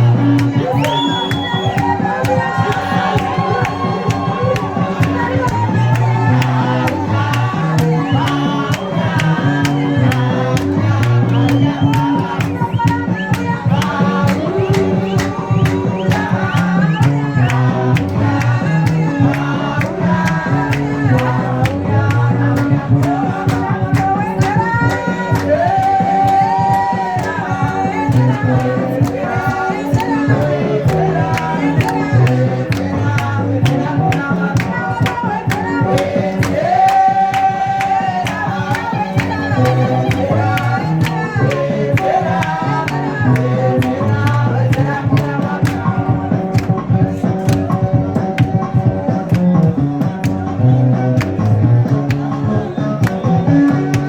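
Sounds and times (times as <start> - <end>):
gospel singing with instruments: 0.0 - 54.0.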